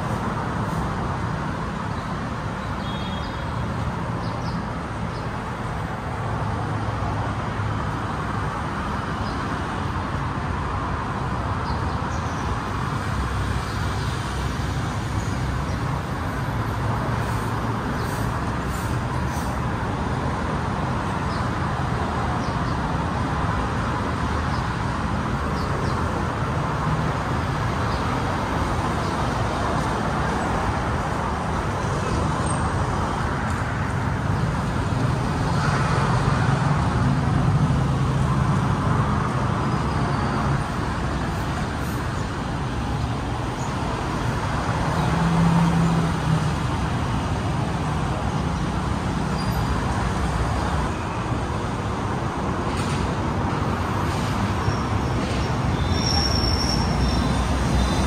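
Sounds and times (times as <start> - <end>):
road traffic hum: 0.0 - 58.0
vehicles passing close by: 0.0 - 58.0.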